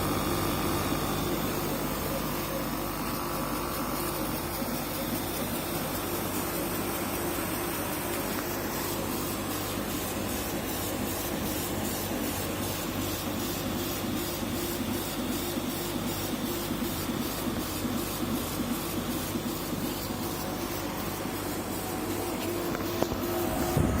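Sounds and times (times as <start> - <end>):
laser cutter hiss: 0.0 - 24.0.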